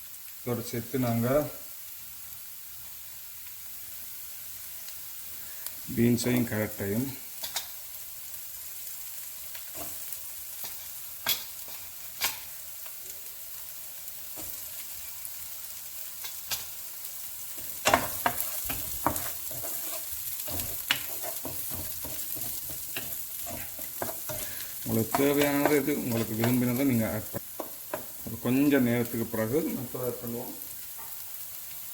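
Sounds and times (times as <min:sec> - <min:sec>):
vegetables sizzling in a pan: 0:00.0 - 0:31.9.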